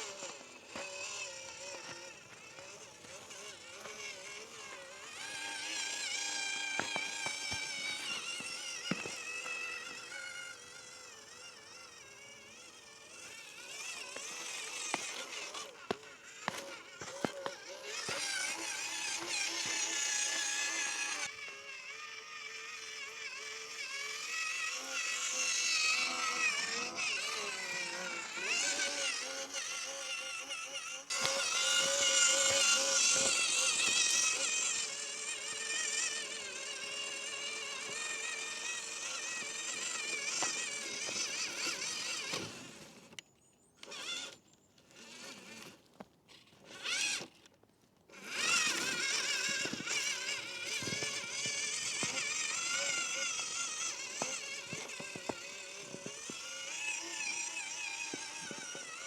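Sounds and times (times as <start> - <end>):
electric toy motor whining: 0.0 - 47.5, 48.1 - 59.0.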